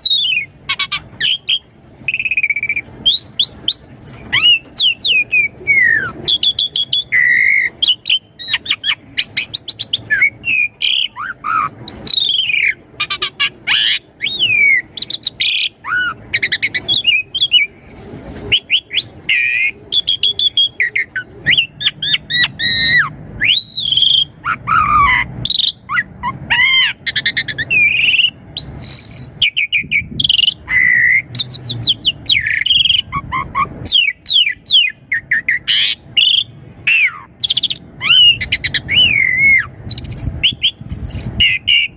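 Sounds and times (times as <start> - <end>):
starling singing: 0.0 - 41.9.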